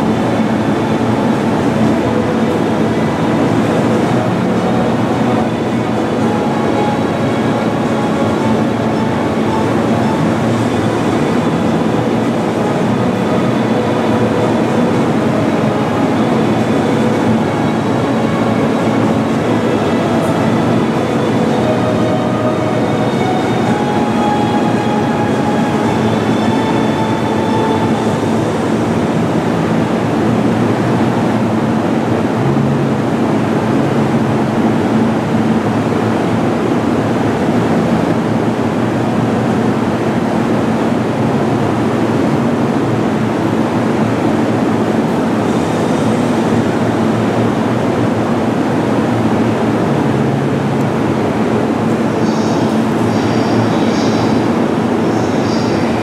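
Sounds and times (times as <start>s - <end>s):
train running on rails: 0.0s - 56.0s.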